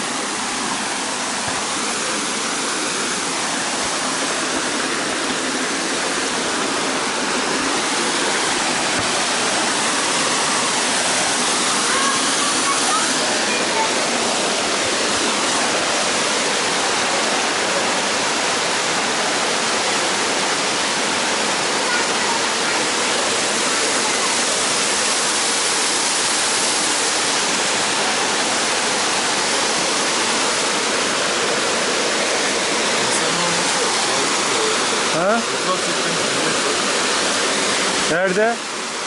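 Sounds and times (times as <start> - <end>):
waterfall cascading over rocks: 0.0 - 39.0.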